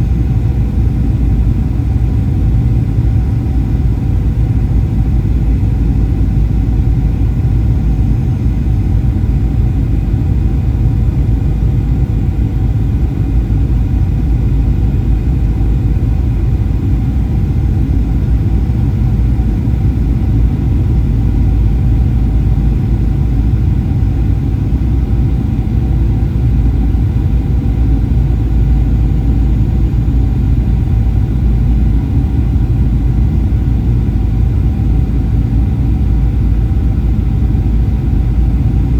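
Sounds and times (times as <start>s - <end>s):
airflow in aircraft cabin: 0.0s - 38.9s.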